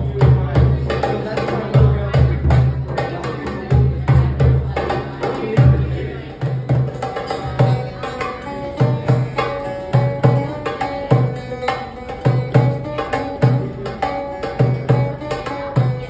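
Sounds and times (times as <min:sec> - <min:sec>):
plucked amplified string instrument: 0:00.0 - 0:16.0
small hand drum: 0:00.0 - 0:16.0.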